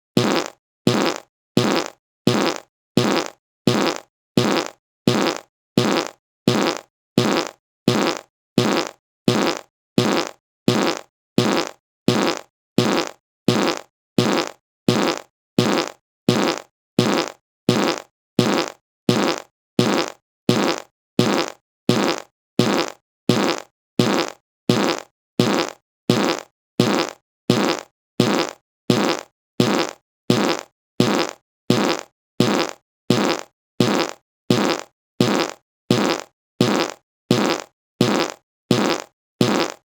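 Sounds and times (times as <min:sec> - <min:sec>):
short fart sound: 0:00.2 - 0:39.9.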